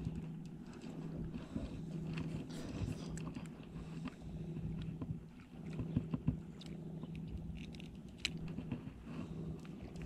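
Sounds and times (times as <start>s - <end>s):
low motor drone: 0.0s - 10.0s.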